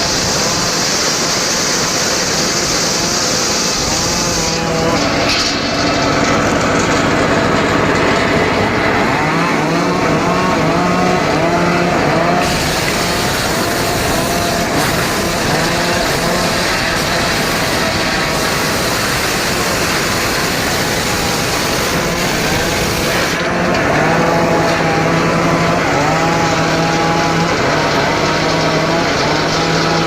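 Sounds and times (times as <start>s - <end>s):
circular saw cutting logs: 0.0s - 30.0s.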